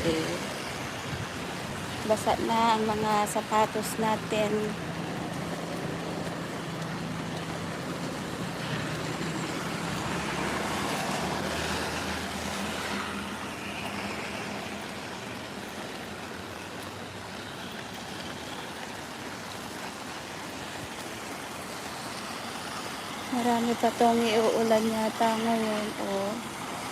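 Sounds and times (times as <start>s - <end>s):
tyres hissing on wet road: 0.0s - 26.9s.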